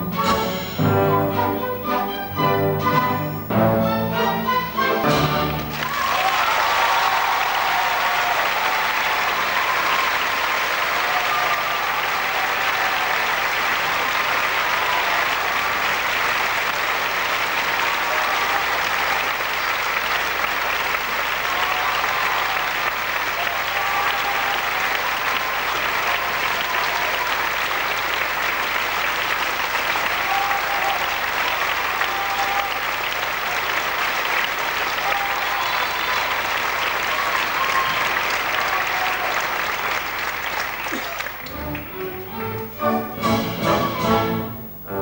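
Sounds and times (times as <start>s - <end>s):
audience applauding: 4.7s - 43.1s.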